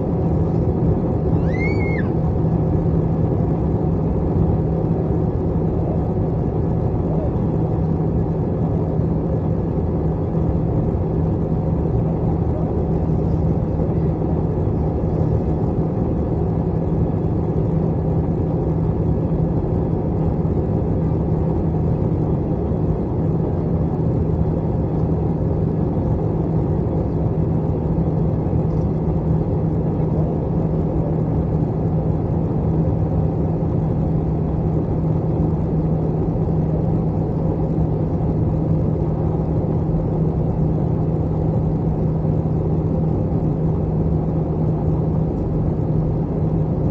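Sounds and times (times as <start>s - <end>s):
airplane cabin drone: 0.0s - 46.9s.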